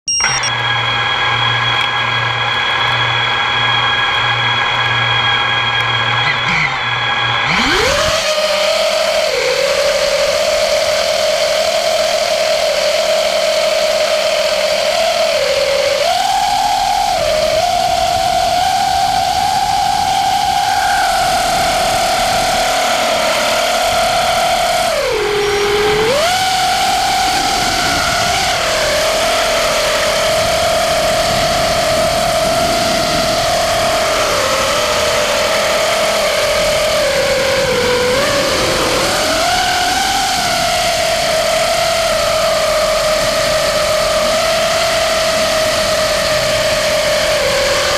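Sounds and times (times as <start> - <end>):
quadcopter motors whining: 0.1 - 47.9.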